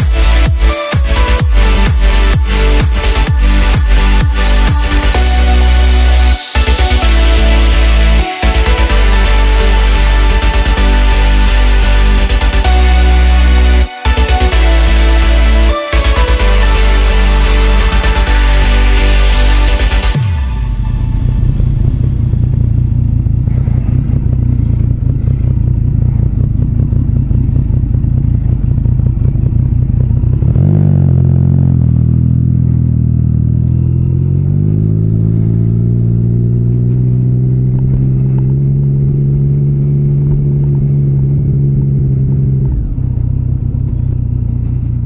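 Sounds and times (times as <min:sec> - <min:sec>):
motorcycle engine chugging: 0:00.0 - 0:45.0.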